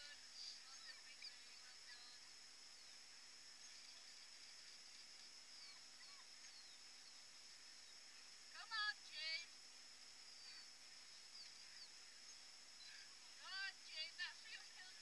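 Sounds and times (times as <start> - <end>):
faint high chirps: 0.0 - 9.5, 10.1 - 15.0
faint outdoor hiss: 0.0 - 15.0.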